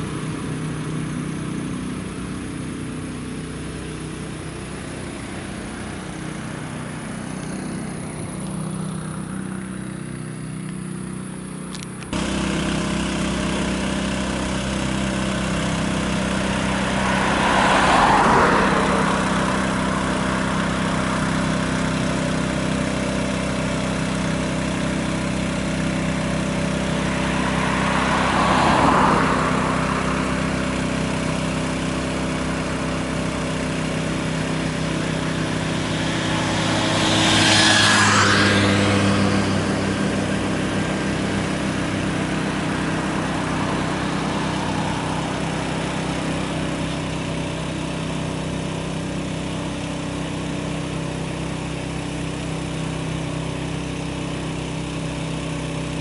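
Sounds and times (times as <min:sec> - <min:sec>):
cars passing close by: 0:00.0 - 0:56.0
truck engine running: 0:00.0 - 0:56.0.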